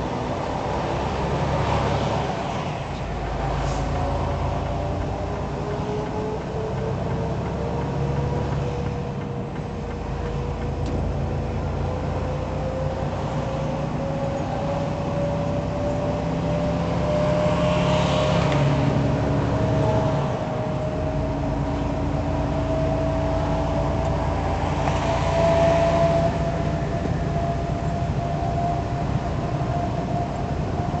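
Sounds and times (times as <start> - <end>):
rising whine: 0.0 - 31.0
truck engine and road rumble: 0.0 - 31.0.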